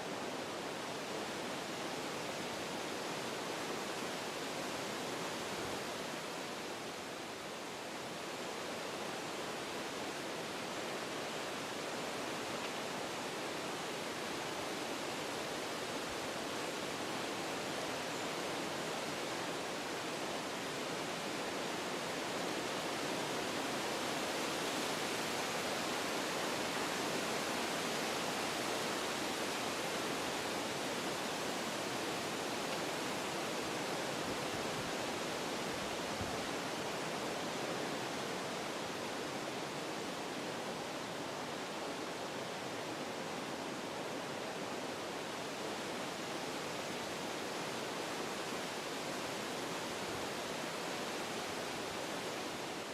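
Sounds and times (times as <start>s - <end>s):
wind through forest trees: 0.0s - 52.9s.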